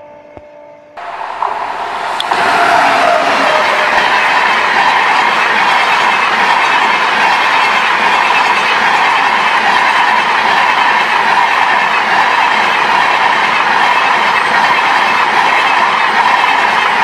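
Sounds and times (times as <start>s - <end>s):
train wheels rushing on rails: 1.0s - 17.0s.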